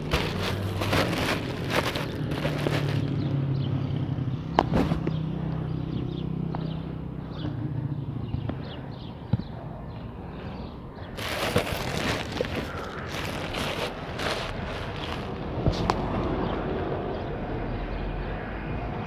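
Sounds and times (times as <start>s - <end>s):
vehicle engine humming: 0.0s - 9.1s, 11.2s - 17.9s.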